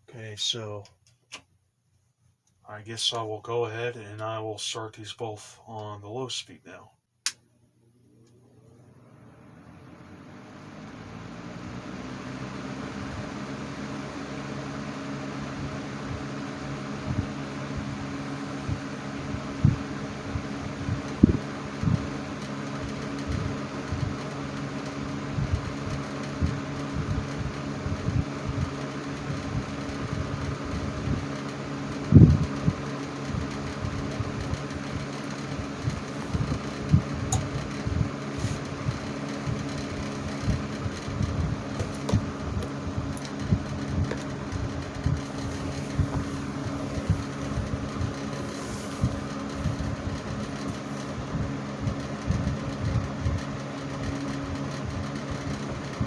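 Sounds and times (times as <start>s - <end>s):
box fans humming: 5.7s - 56.0s.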